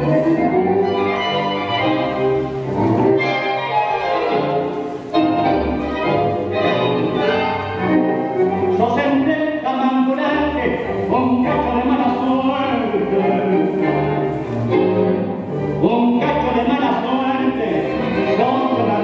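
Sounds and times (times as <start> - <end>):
tango music with singer over speakers: 0.0 - 19.0.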